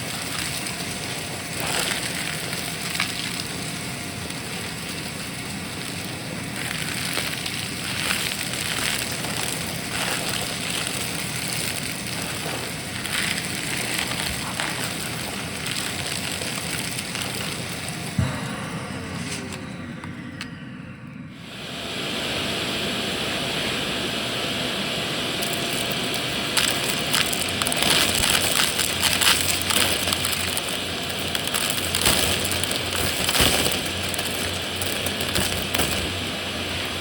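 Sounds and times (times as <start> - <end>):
grit crackling up nozzle: 0.0 - 18.2, 25.4 - 37.0
vacuum cleaner running: 0.0 - 37.0.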